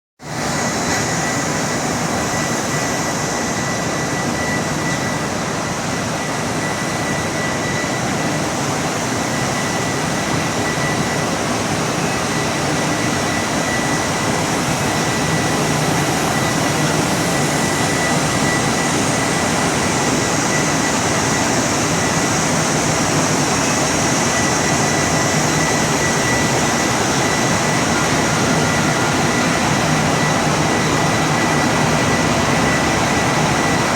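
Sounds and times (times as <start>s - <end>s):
washing machine running: 0.2s - 33.9s.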